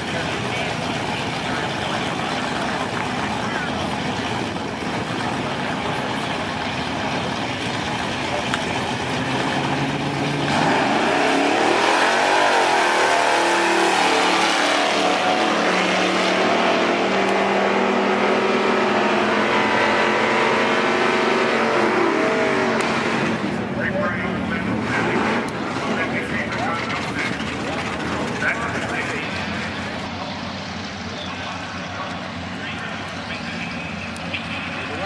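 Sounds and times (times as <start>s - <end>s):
drag race cars engines roaring: 0.0s - 35.0s.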